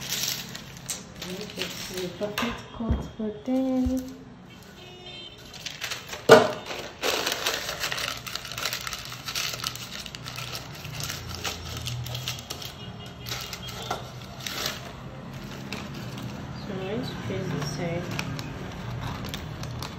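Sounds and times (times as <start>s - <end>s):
baking paper crinkling: 0.0s - 2.4s, 5.4s - 19.9s.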